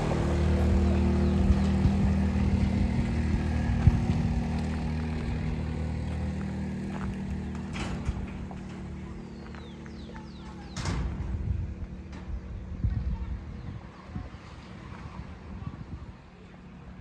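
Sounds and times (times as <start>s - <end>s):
vehicle engine running: 0.0s - 13.6s.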